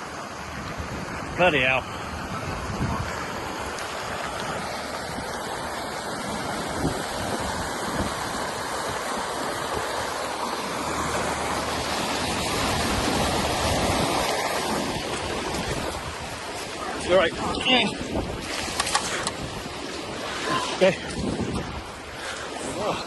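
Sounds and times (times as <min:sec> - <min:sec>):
flood water rushing in river: 0:00.0 - 0:23.0.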